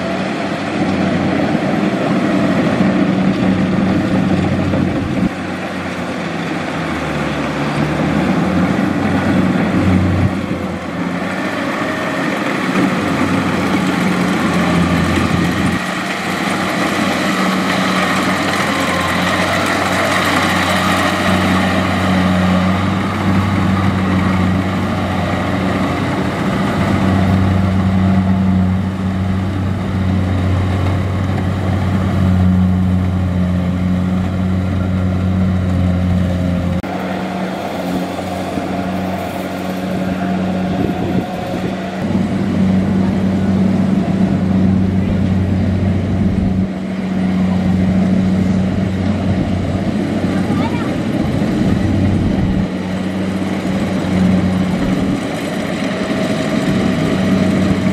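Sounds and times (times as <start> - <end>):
diesel engine running under load: 0.0 - 57.9
threshing machinery rattling: 0.0 - 57.9.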